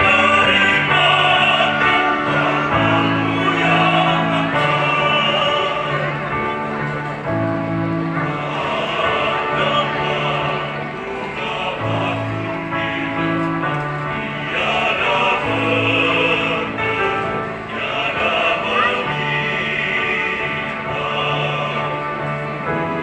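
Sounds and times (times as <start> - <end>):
choir singing in harmony: 0.0 - 23.0.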